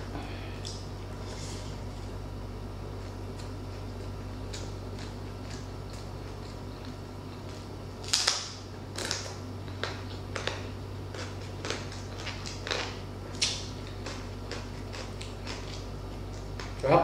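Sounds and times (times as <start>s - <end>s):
crunchy chewing: 0.3s - 17.0s.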